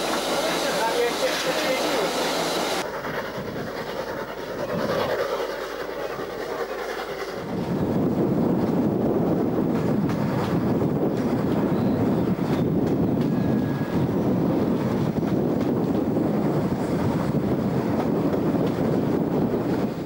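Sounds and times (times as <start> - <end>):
steam locomotive running: 0.0 - 20.0
train running on rails: 0.0 - 20.0.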